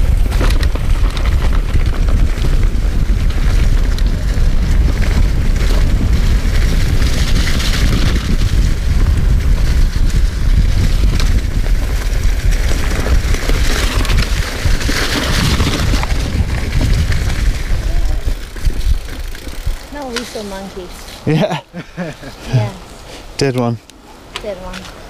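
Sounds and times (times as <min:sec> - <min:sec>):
wind buffeting microphone: 0:00.0 - 0:21.1
bike tyres rolling over leaves: 0:00.0 - 0:21.4.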